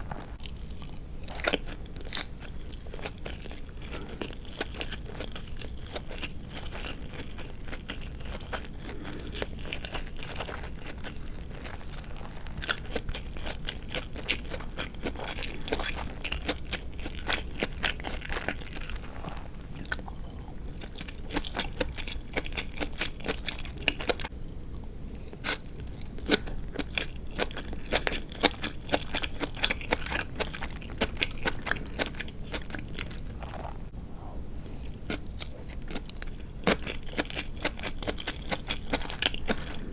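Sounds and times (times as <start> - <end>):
person chewing crunchy food: 0.0 - 34.0, 34.6 - 39.9.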